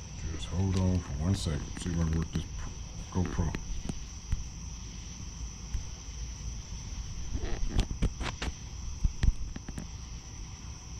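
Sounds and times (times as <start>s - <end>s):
crickets chirring: 0.0s - 10.9s.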